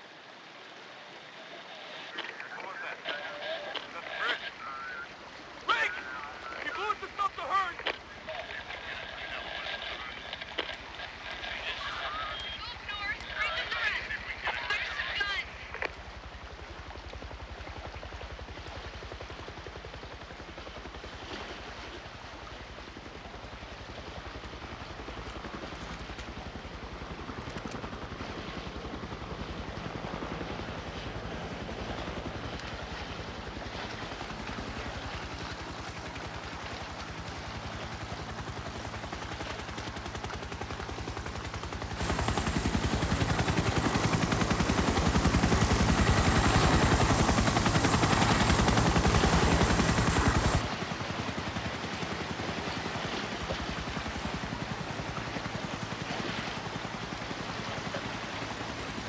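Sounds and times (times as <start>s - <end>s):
helicopter rotor chopping: 5.7s - 16.5s, 22.0s - 59.0s.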